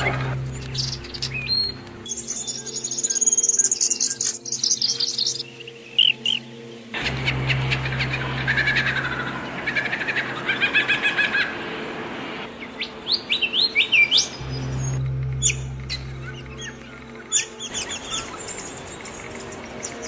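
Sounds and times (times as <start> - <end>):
songbirds chirping: 0.0 - 10.8, 12.0 - 20.0.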